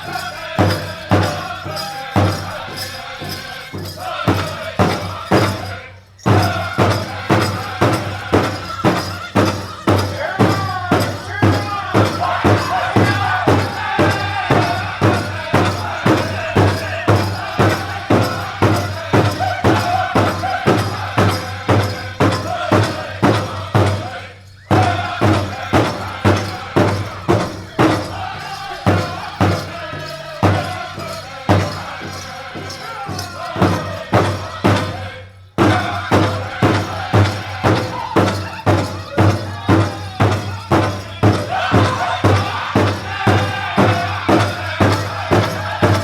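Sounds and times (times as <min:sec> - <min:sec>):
high wavering voices singing: 0:00.0 - 0:46.0
singers striking big drum: 0:00.0 - 0:46.0.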